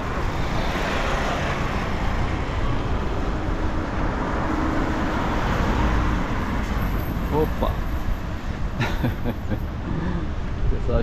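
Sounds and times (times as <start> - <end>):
passing engines rumbling: 0.0 - 11.0.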